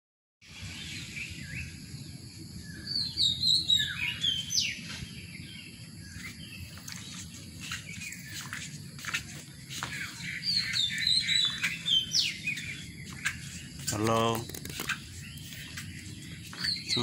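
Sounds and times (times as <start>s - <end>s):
birds chirping and whistling: 0.4s - 17.0s.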